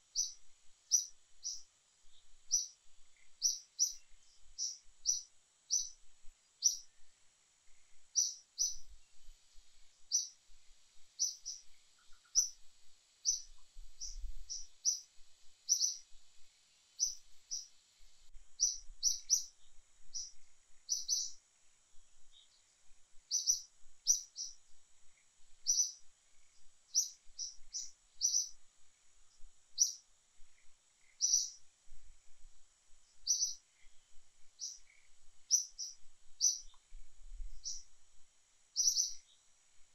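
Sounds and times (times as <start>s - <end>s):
bird chirping: 0.0s - 21.4s, 22.2s - 31.7s, 33.1s - 37.9s, 38.7s - 39.5s
faint high hiss: 0.0s - 39.9s.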